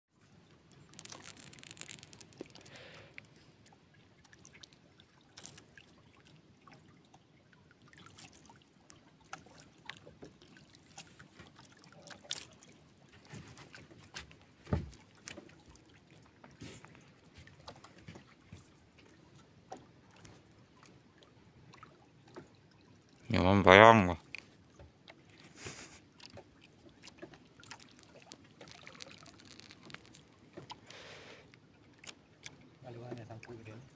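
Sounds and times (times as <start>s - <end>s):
water lapping against boat hull: 0.2s - 33.9s.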